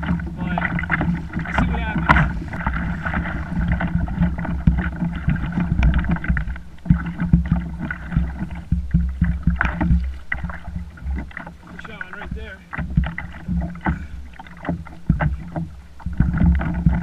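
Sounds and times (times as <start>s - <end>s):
steady low rumble: 0.0s - 17.0s
water slapping against kayak hull: 0.0s - 17.0s.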